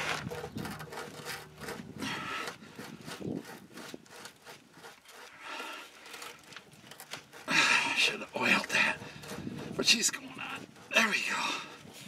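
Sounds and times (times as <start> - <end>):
rubber scraping against metal: 0.0 - 12.0.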